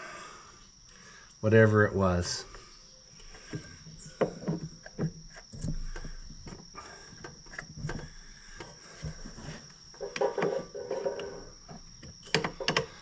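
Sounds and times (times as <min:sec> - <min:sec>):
insect trill: 0:00.0 - 0:13.0.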